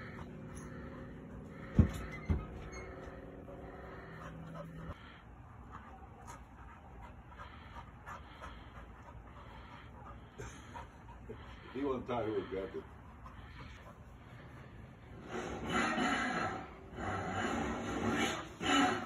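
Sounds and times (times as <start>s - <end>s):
dog panting: 0.0s - 19.0s
steady low hum: 0.0s - 19.0s.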